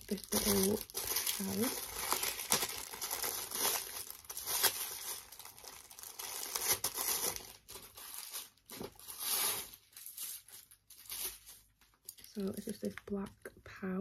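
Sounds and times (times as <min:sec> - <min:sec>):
plastic packaging crinkling and tearing: 0:00.0 - 0:13.4.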